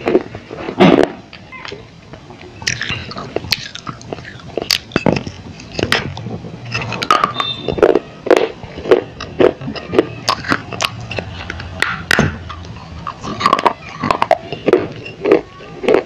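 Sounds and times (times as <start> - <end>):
mouth noises: 2.4 - 16.0
dry clay crunching when chewed: 2.6 - 16.0.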